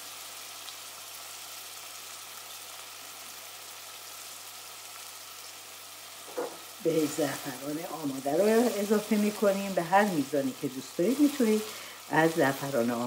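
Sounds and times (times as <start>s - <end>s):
chicken and onion sizzling in pot: 0.0s - 13.0s.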